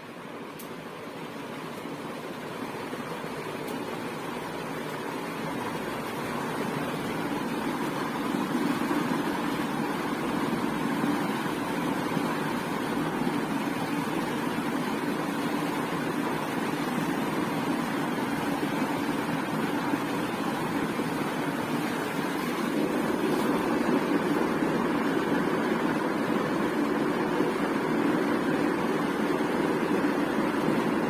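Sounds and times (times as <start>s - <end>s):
ceiling fan whoosh: 0.0s - 31.0s.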